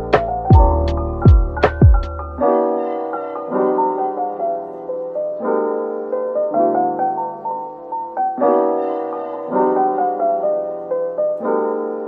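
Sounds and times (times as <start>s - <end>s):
gentle piano chords: 0.0s - 12.0s.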